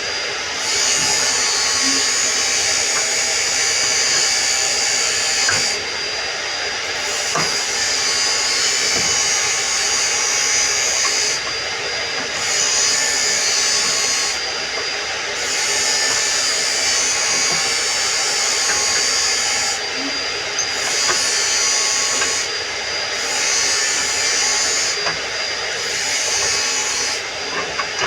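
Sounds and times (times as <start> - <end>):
power tool running: 0.0 - 28.0.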